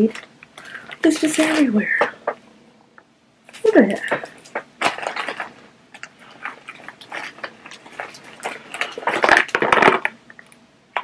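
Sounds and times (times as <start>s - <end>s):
paper and plastic packet crinkling: 0.0s - 2.4s, 3.5s - 10.6s.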